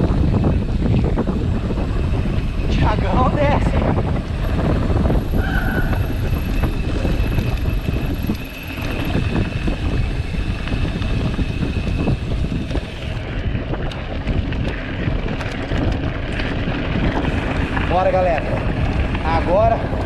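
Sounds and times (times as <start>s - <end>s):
bike rattling over rough ground: 0.0s - 20.0s
wind buffeting microphone: 0.0s - 20.0s.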